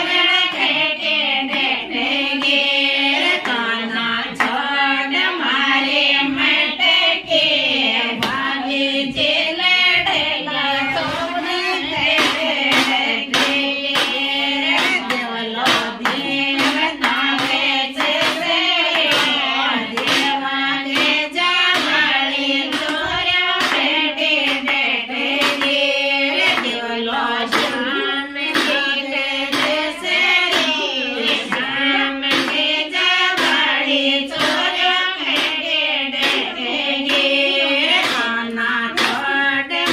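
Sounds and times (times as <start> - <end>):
women singing in chorus: 0.0 - 39.9.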